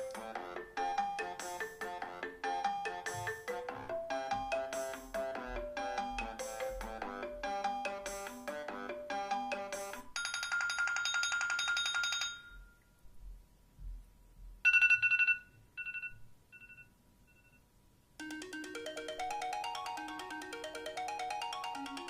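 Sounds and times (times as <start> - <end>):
melodic phone ringtone: 0.0 - 12.6, 14.7 - 16.8, 18.2 - 22.0.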